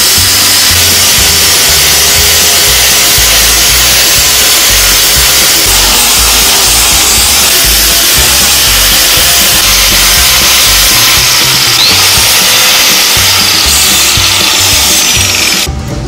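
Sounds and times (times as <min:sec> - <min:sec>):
angle grinder sanding wood: 0:00.0 - 0:15.7.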